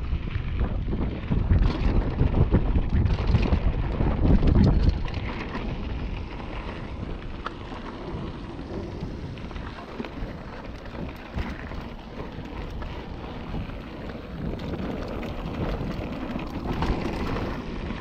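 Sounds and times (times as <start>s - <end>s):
bike clicks and rattles: 0.0s - 18.0s
bike tyres crunching on gravel: 0.0s - 18.0s
wind buffeting microphone: 0.0s - 18.0s.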